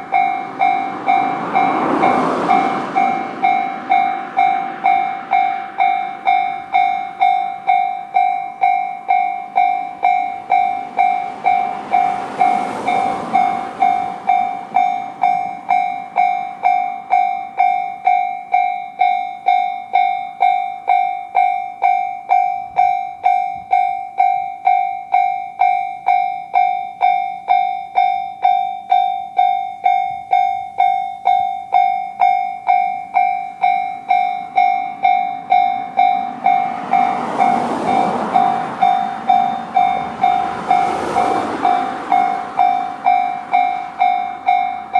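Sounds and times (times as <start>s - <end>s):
level crossing warning bell: 0.0s - 44.9s
train passing: 0.0s - 44.9s.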